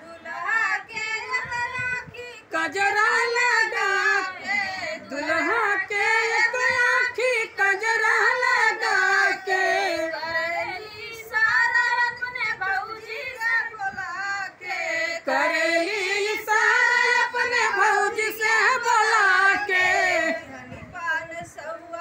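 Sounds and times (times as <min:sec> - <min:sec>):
women singing folk song: 0:00.0 - 0:22.0.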